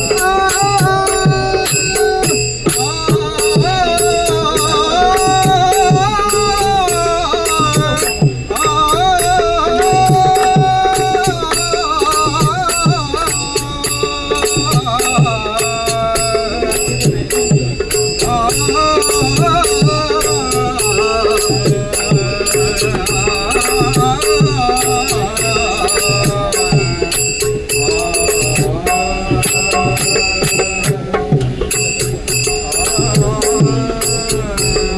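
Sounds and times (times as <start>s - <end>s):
hand drum beat: 0.0s - 34.9s
jingling percussion: 0.0s - 34.9s
wavering melodic line: 0.0s - 34.9s.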